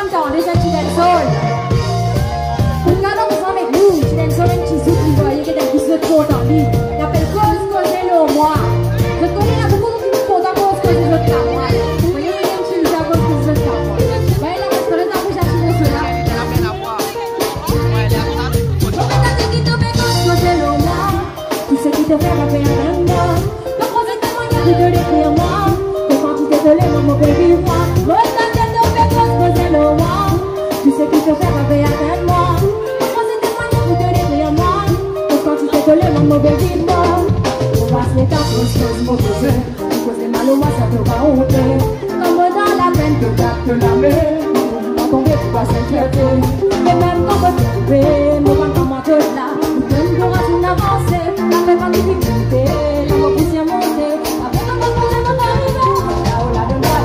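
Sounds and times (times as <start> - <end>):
woman singing: 0.0 - 17.8, 18.4 - 57.0
live band through speakers: 0.0 - 57.0.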